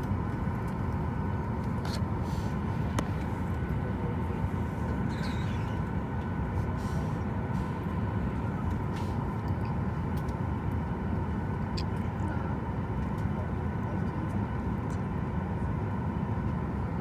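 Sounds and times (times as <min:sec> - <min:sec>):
airliner cabin rumble and hum: 0:00.0 - 0:17.0.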